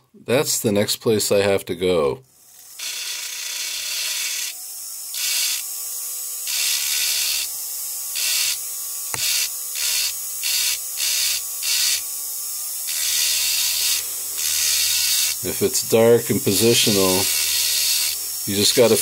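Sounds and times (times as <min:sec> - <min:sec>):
rotary burr grinding stone: 0:02.5 - 0:19.0.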